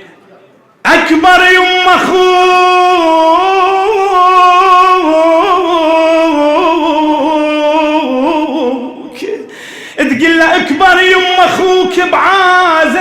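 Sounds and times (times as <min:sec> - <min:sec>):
man chanting a lament: 0:00.8 - 0:13.0.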